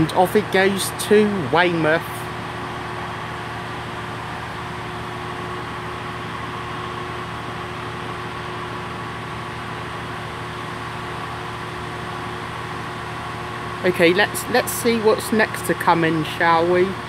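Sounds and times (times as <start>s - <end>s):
idling train hum: 0.0s - 17.0s.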